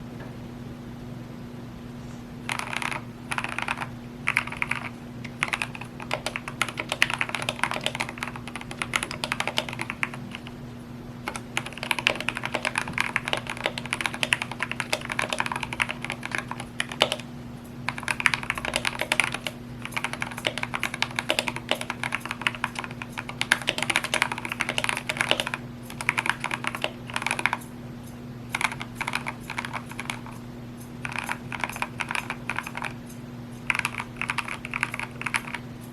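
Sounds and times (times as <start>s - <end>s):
steady low hum: 0.0s - 35.9s
mechanical keyboard typing: 2.4s - 10.6s, 11.2s - 17.3s, 17.9s - 27.7s, 28.5s - 30.4s, 31.0s - 35.7s.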